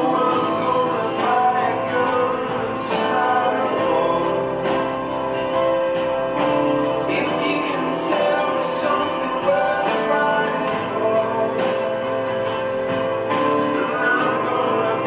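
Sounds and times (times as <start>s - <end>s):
person singing: 0.0s - 15.0s
plucked guitar: 0.0s - 15.0s
steady beat: 0.0s - 15.0s.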